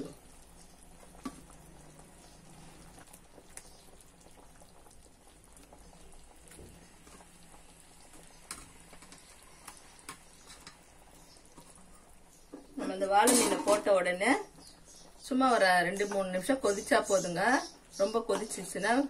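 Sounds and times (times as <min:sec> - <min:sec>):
gravy simmering and bubbling: 0:00.0 - 0:19.0.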